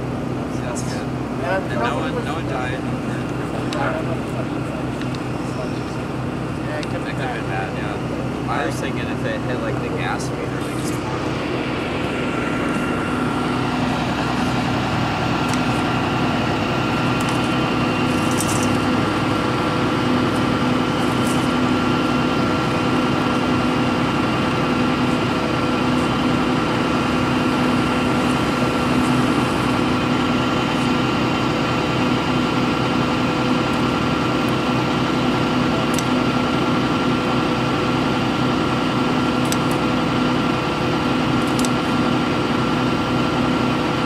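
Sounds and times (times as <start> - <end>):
truck engine idling: 0.0 - 44.0.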